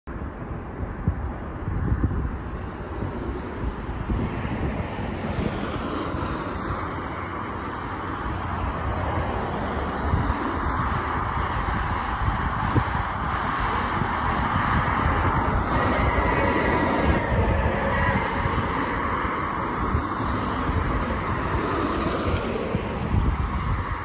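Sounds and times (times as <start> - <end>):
wind gusting on microphone: 0.1 - 24.0
distant steam train roar: 2.7 - 24.0.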